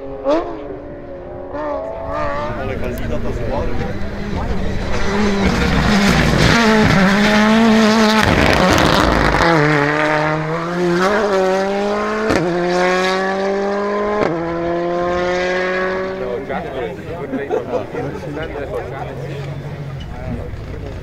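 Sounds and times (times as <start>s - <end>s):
gravel and tyre noise: 0.0s - 21.0s
rally car engine at full throttle: 0.0s - 21.0s.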